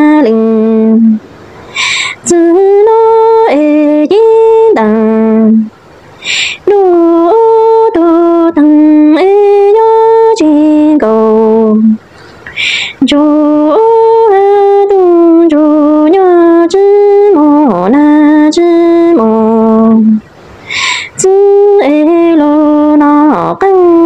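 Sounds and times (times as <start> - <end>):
woman singing unaccompanied: 0.0 - 24.0.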